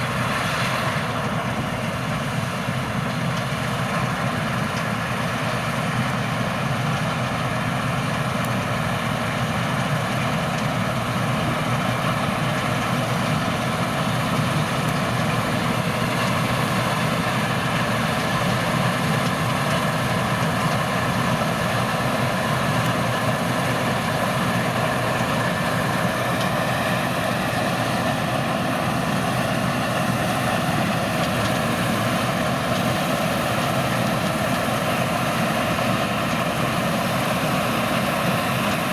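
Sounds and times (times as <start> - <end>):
combine harvester drone: 0.0 - 38.9.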